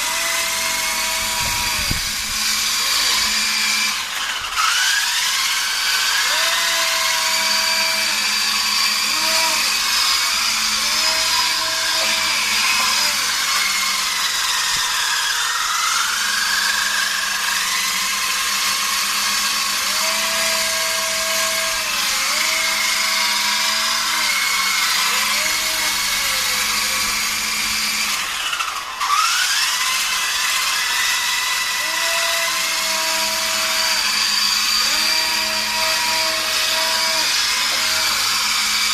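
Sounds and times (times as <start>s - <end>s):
toy helicopter motor whining: 0.0s - 38.9s.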